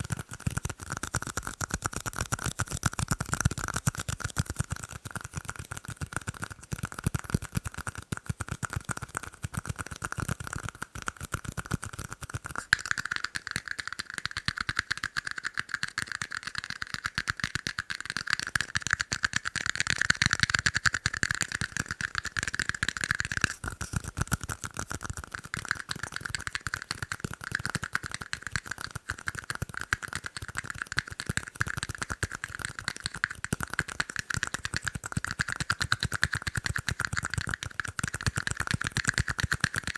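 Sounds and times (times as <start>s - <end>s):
fast tapping on tiny cups: 0.0s - 39.9s.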